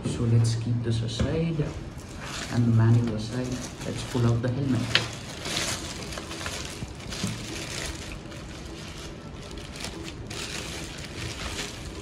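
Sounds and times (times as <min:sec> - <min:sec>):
plastic bag crinkling: 0:01.9 - 0:12.0.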